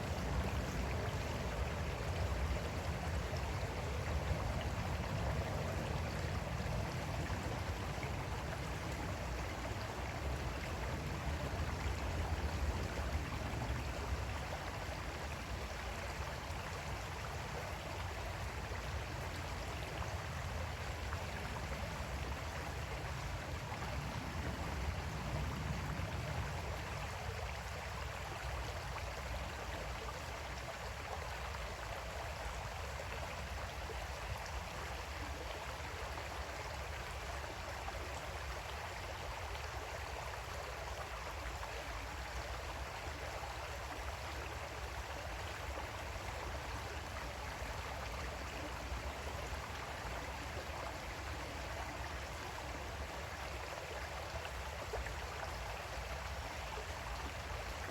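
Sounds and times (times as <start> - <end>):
creek water flowing: 0.0 - 57.9.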